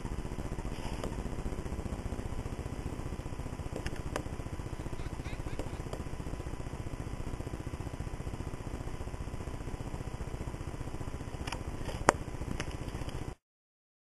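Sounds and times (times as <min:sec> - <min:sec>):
low mechanical drone with flutter: 0:00.0 - 0:13.4.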